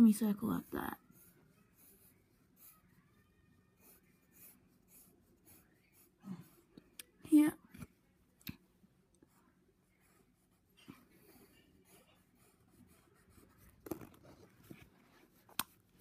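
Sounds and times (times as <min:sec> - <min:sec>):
pencil on paper: 0:00.0 - 0:06.9, 0:09.2 - 0:16.0.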